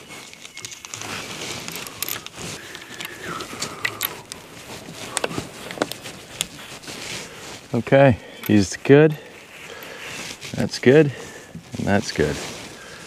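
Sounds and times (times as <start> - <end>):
hands handling wires: 0.0 - 13.0.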